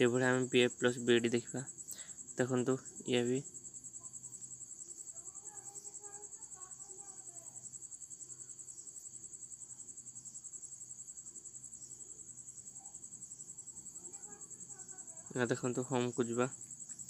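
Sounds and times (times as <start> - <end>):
high-pitched insect trill: 0.0 - 17.0.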